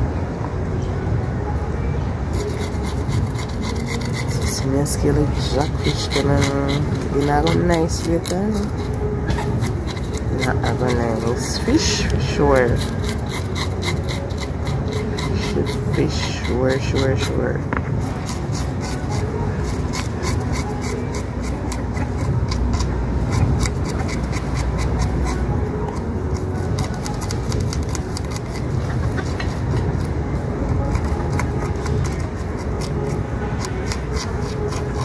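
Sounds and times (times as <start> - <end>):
knife scraping fish scales: 2.3 - 35.0.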